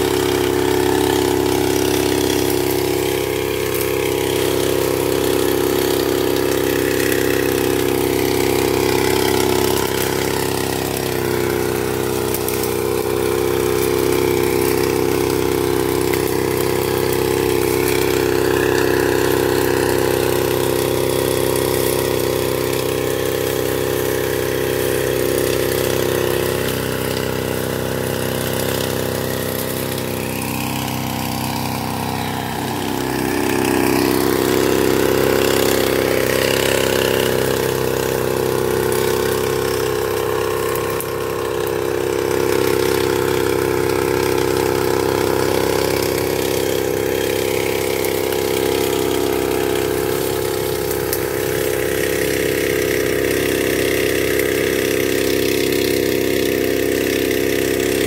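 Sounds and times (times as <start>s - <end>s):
sprayer engine running: 0.0s - 58.0s.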